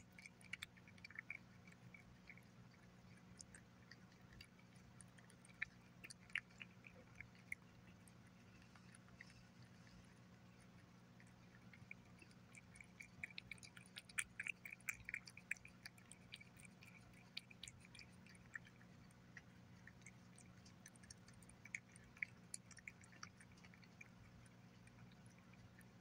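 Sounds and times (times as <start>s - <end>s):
cat chewing and lapping: 0.0s - 26.0s.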